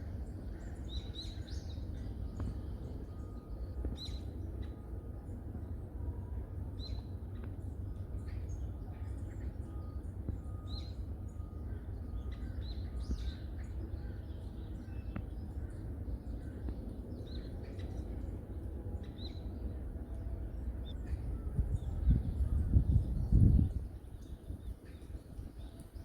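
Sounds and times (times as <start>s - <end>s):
songbirds chirping: 0.0s - 26.0s
steady low rumble: 0.0s - 26.0s.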